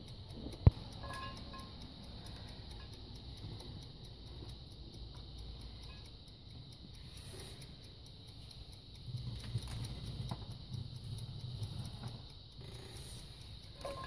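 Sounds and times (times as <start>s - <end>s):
faint rapid ticking: 0.0s - 14.0s.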